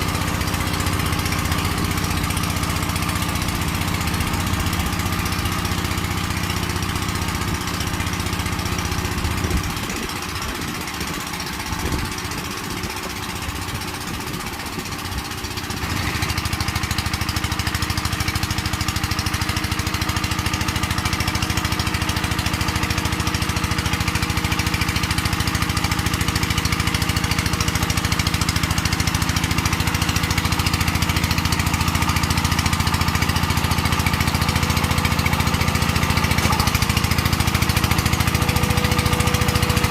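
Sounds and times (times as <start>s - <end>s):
power tiller diesel engine: 0.0s - 39.9s.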